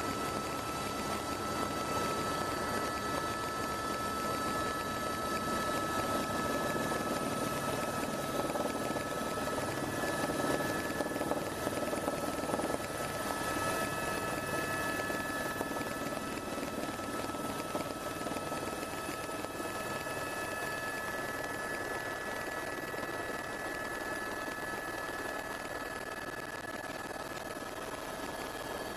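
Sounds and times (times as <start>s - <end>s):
helicopter engine and rotor drone: 0.0s - 28.9s.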